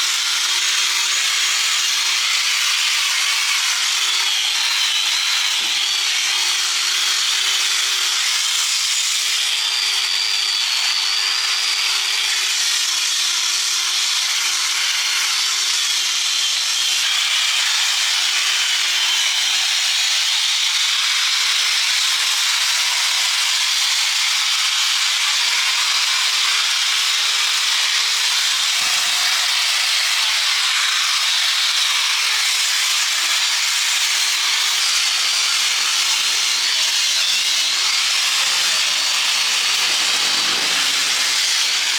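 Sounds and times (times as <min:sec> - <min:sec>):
power tool grinding metal: 0:00.0 - 0:41.9.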